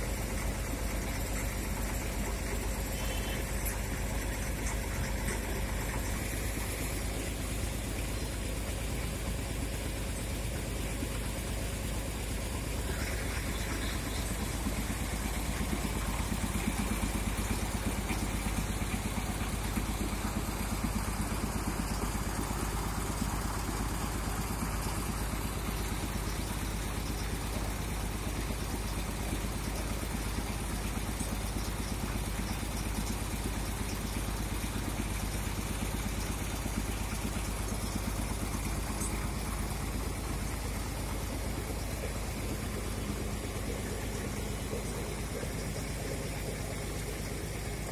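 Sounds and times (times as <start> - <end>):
crane engine running: 0.0 - 47.9.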